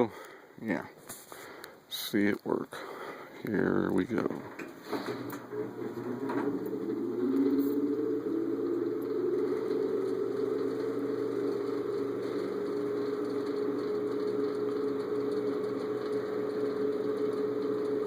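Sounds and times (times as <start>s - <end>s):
space heater fan humming: 0.0s - 18.0s.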